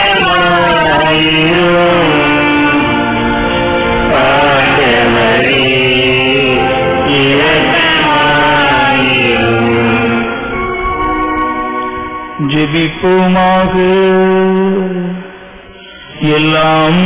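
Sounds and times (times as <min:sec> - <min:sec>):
instrumental accompaniment: 0:00.0 - 0:14.0
hymn singing: 0:00.0 - 0:17.0.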